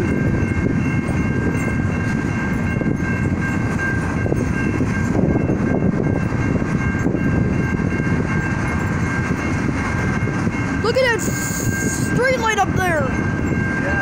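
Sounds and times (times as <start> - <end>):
freight train rumbling past: 0.0 - 14.0
high ringing tones: 0.0 - 14.0.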